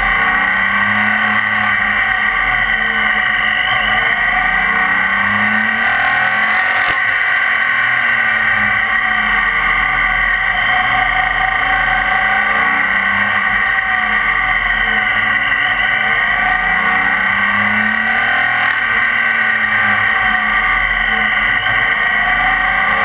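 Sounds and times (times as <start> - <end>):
motorcycle engine running: 0.0 - 23.0
road noise: 0.0 - 23.0.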